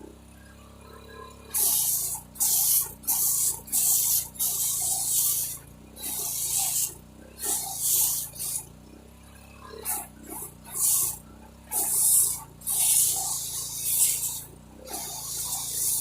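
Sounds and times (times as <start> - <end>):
pressure washer hissing bursts: 1.6 - 8.6, 9.9 - 16.0.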